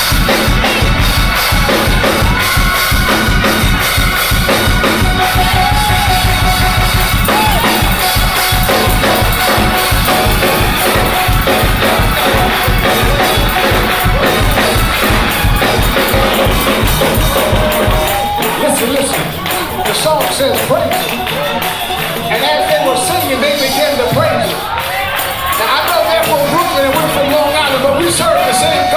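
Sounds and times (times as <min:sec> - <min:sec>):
fast drum kit beat: 0:00.0 - 0:28.9
gospel band music: 0:00.0 - 0:28.9.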